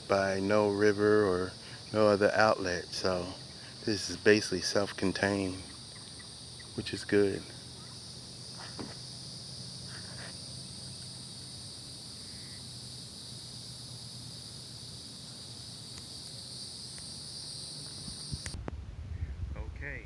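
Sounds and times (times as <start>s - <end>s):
high-pitched insect chorus: 0.0s - 18.6s.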